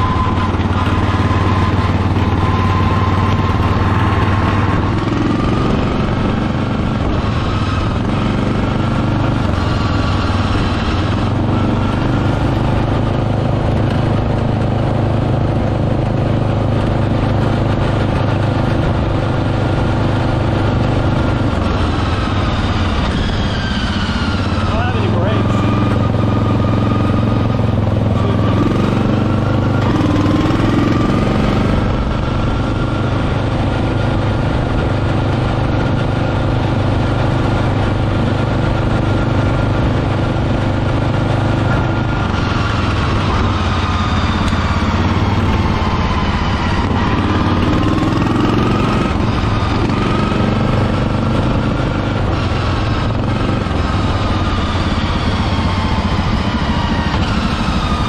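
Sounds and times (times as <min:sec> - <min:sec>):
riding mower engine running: 0:00.0 - 0:58.0.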